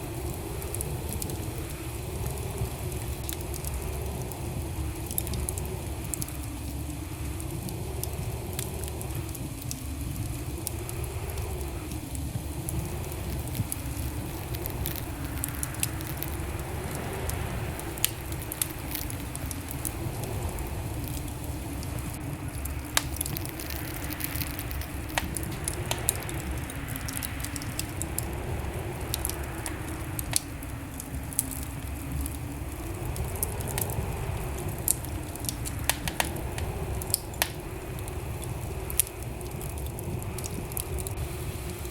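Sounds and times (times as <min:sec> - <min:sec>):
faint wavering hum: 0:00.0 - 0:41.9
wood fire crackling: 0:00.0 - 0:41.9.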